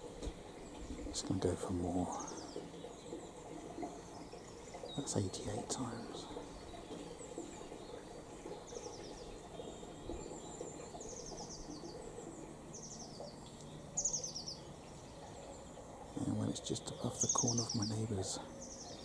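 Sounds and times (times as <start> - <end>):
faint low background hum: 0.0 - 19.0
small birds chirping: 0.0 - 19.0.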